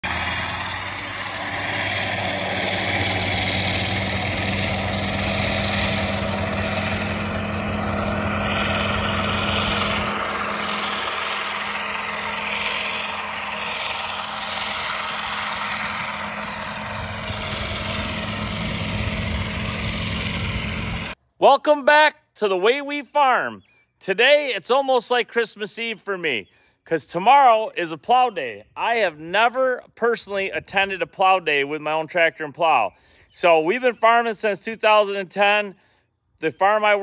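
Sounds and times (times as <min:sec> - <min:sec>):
tractor diesel engines under load: 0:00.0 - 0:37.0.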